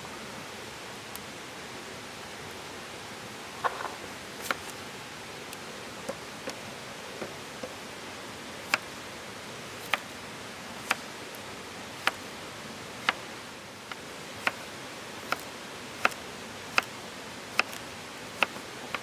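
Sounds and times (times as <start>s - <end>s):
steady fire hiss: 0.5s - 19.0s.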